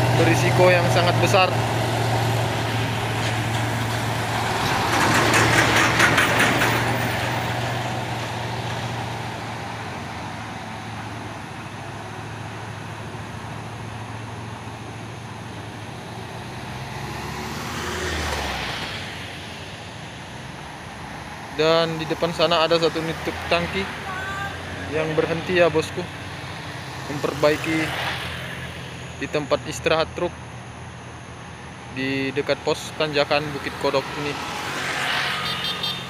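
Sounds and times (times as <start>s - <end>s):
diesel truck engine labouring: 0.0s - 34.9s
vehicle rumbling past: 0.0s - 36.0s.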